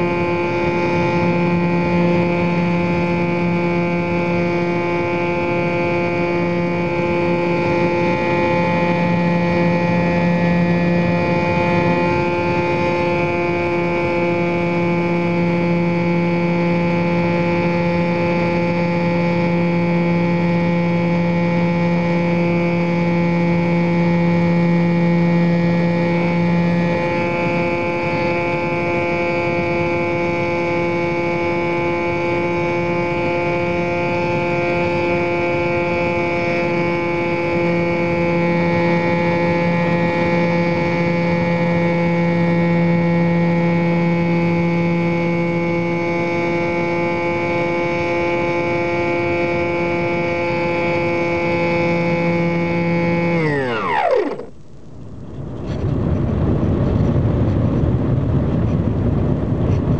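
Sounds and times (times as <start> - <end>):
model airplane motor drone: 0.0 - 59.9.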